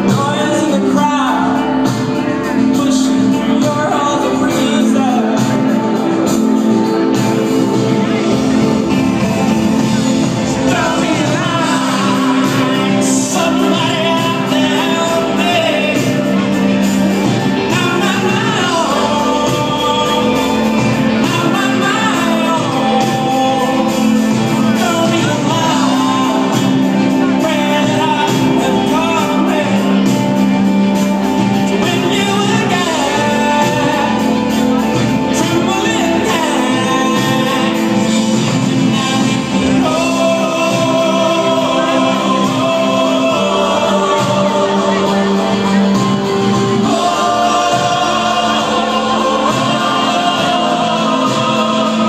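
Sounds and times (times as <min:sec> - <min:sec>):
lead singer's vocals: 0:00.0 - 0:52.0
live rock band playing: 0:00.0 - 0:52.0.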